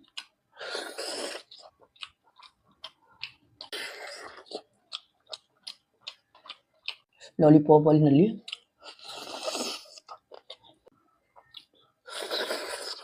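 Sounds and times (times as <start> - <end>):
close chewing and biting: 0.0 - 7.2, 8.4 - 13.0.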